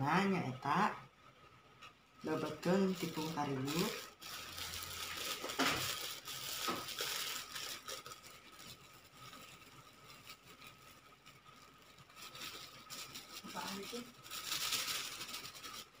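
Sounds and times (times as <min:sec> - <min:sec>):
flour pouring into pot: 0:02.2 - 0:16.0
plastic bag crinkling: 0:02.2 - 0:16.0.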